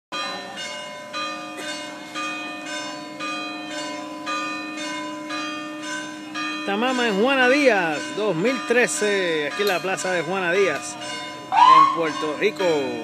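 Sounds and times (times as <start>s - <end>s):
church bells ringing: 0.1s - 13.0s.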